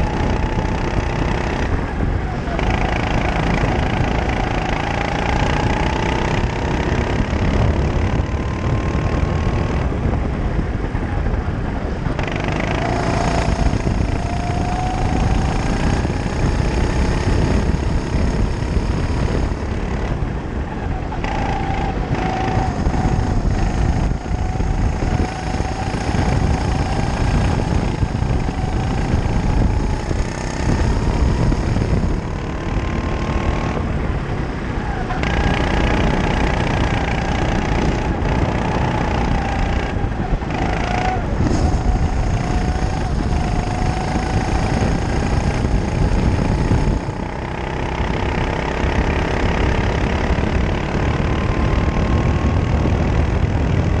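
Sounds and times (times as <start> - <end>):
kart engine under throttle: 0.0 - 54.0
wind noise: 0.0 - 54.0.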